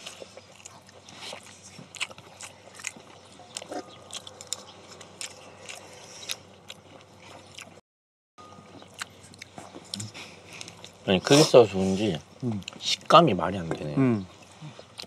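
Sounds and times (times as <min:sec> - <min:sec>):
people chewing food: 0:00.0 - 0:07.8, 0:08.4 - 0:15.0.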